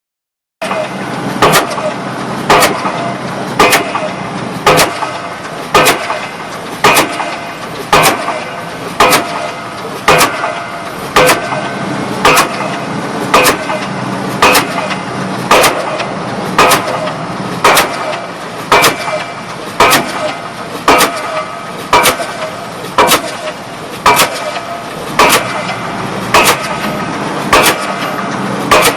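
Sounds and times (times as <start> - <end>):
pile driver hammer banging: 0.6 - 28.9
rig engine running: 0.6 - 28.9.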